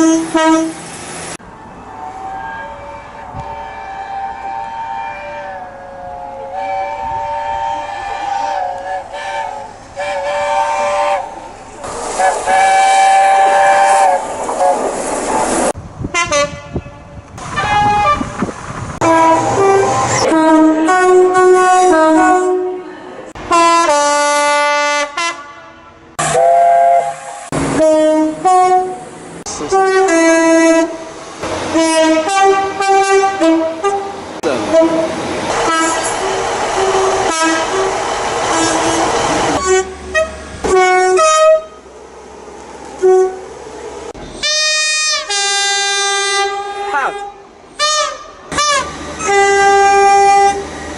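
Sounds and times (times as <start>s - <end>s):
two-tone train horn: 0.0s - 0.8s, 2.0s - 11.4s, 12.2s - 14.8s, 16.1s - 31.1s, 31.7s - 41.8s, 43.0s - 43.5s, 44.4s - 50.8s
long steady train horn blast: 0.0s - 0.9s, 1.9s - 11.5s, 12.2s - 14.8s, 16.1s - 41.9s, 42.9s - 50.9s
rumble of passing trains: 0.0s - 50.9s.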